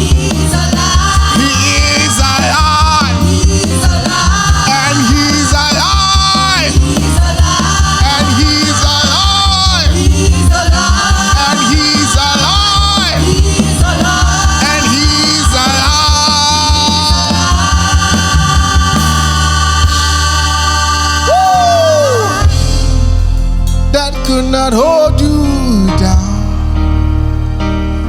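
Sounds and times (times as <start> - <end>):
worship band playing upbeat song: 0.0 - 28.0.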